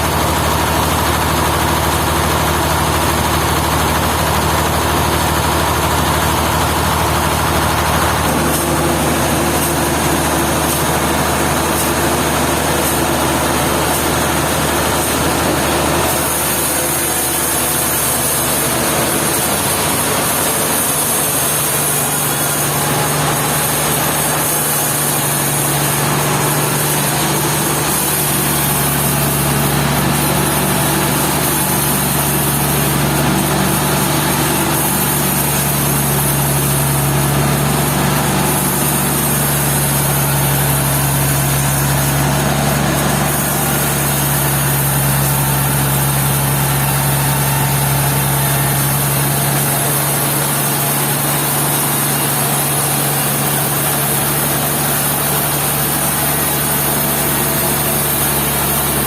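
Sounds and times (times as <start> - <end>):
sawmill saw humming and hissing: 0.0 - 59.0.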